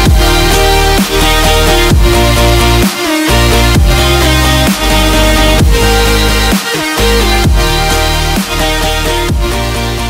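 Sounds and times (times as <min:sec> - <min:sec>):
deep bass hits falling in pitch: 0:00.0 - 0:09.8
electronic dance music: 0:00.0 - 0:10.0.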